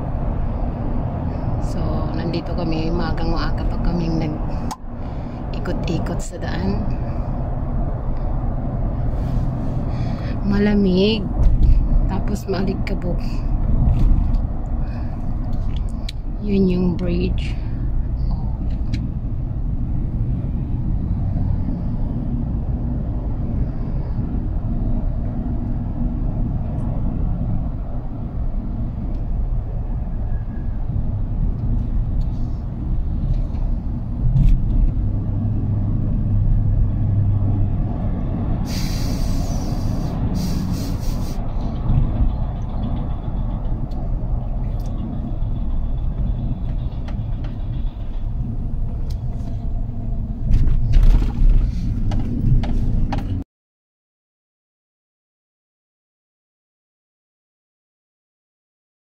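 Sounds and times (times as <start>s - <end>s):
engine and road rumble: 0.0s - 53.5s.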